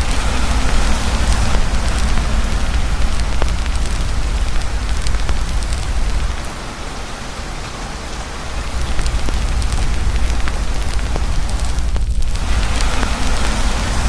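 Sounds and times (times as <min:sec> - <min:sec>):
deep rumble: 0:00.0 - 0:06.7, 0:08.4 - 0:14.0
campfire crackling: 0:00.0 - 0:14.0
heavy rain falling: 0:00.0 - 0:14.0.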